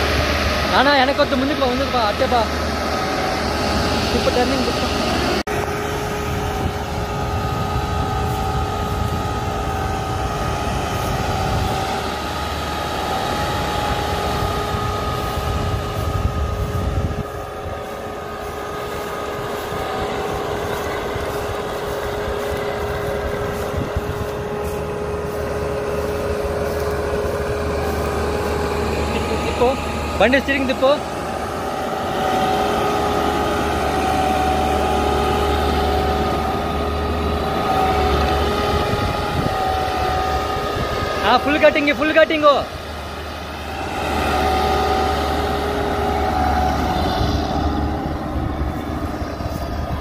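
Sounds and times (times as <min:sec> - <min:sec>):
combine harvester engine running: 0:00.0 - 0:50.0
constant machine whine: 0:00.0 - 0:50.0.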